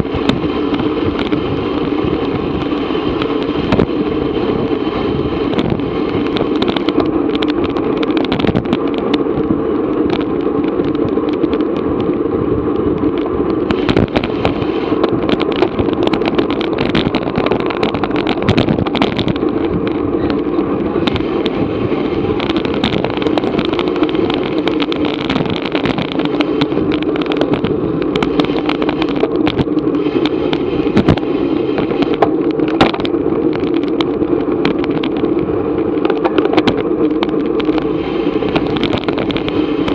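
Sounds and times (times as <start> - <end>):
wind and road rushing hum: 0.0 - 39.9
small rattling clicks: 5.5 - 39.9.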